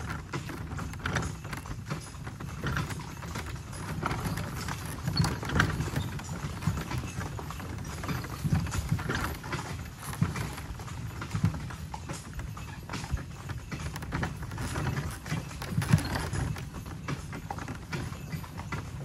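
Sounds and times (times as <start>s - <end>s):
cart wheels rumbling: 0.0s - 19.0s
horse hooves clip-clopping on dirt: 0.0s - 19.0s.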